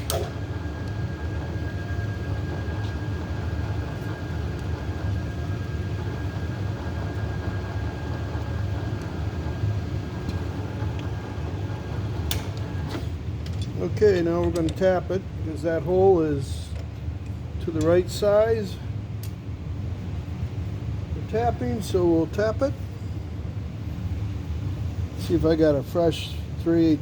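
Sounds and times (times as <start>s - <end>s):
spindle motor hum and whine: 0.0s - 27.0s.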